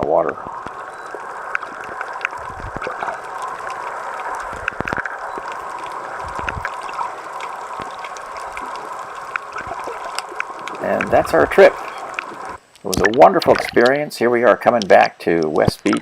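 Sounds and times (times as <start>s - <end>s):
sharp underwater clicks: 0.0s - 14.0s
muffled underwater hiss: 0.0s - 16.0s.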